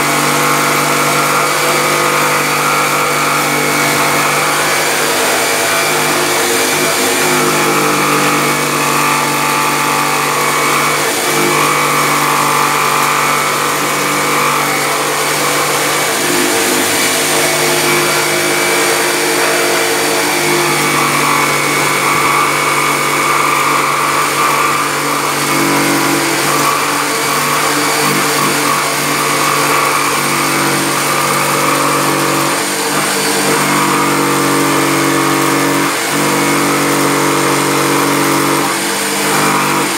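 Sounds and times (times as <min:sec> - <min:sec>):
electric jigsaw cutting wood: 0:00.0 - 0:39.9.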